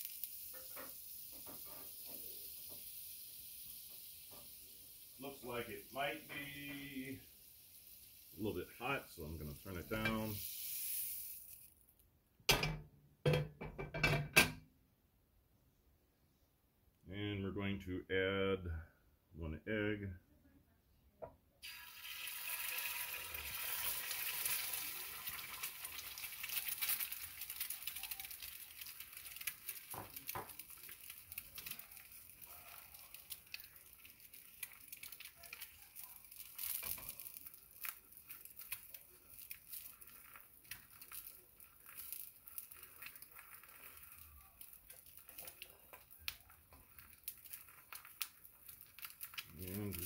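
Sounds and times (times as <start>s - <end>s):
egg sizzling in a pan: 0.0s - 12.0s, 21.6s - 50.0s.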